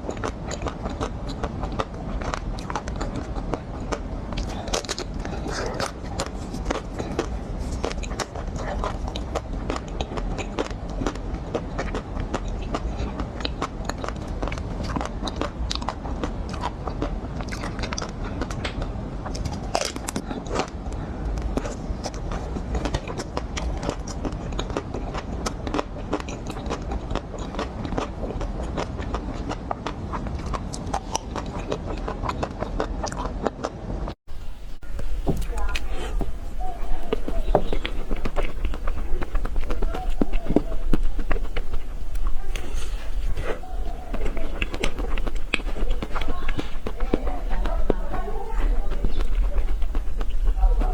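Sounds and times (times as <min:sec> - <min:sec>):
crunchy chocolate shell chewing: 0:00.0 - 0:33.8, 0:34.8 - 0:50.9.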